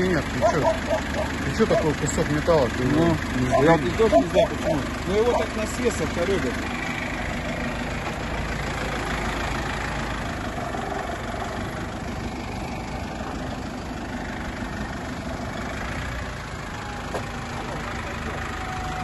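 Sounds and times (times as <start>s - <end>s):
van engine idling: 0.0s - 19.0s.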